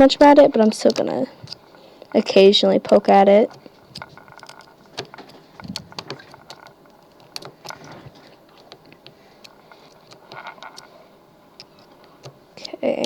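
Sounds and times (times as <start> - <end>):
lock pick clicking and scratching: 0.0 - 11.0, 11.6 - 12.8.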